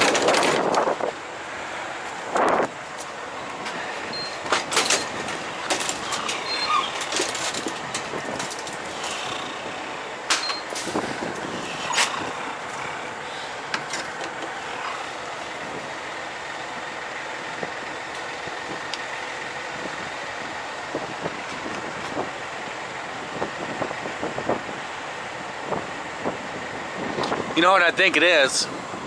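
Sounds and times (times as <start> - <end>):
truck being fuelled at pump: 0.0 - 29.0.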